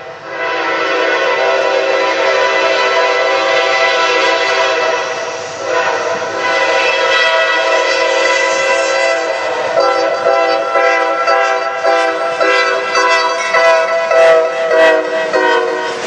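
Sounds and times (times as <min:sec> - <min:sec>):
locomotive air horn chord: 0:00.0 - 0:16.0.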